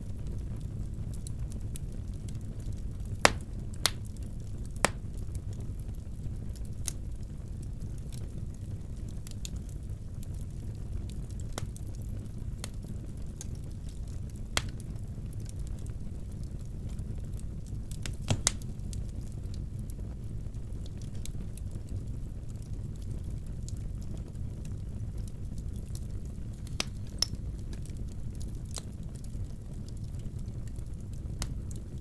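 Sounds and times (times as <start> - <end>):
fire crackling and popping: 0.0 - 32.0
fire low rumble: 0.0 - 32.0.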